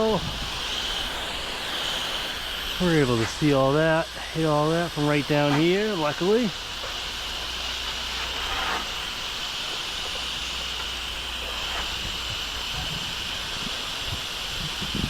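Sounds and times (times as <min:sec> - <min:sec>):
pressure washer water hissing: 0:00.0 - 0:15.0.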